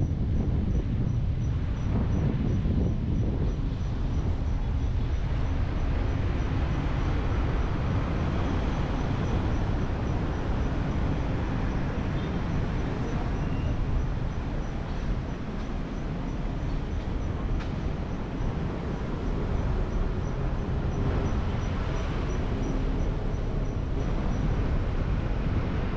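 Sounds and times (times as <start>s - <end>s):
car driving rumble: 0.0s - 25.9s
surrounding traffic: 0.0s - 25.9s.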